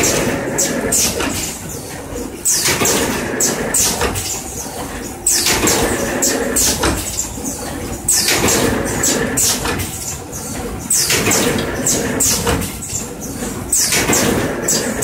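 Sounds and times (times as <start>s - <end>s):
machine clatter: 0.0s - 15.0s.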